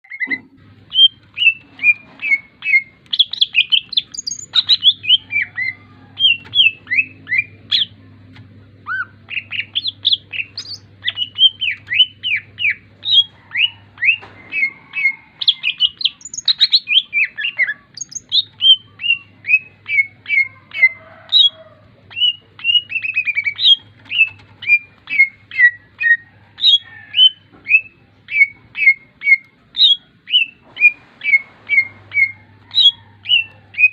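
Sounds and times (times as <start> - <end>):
songbird whistling: 0.0 - 7.9, 8.8 - 33.9
faint low hum: 0.1 - 33.9.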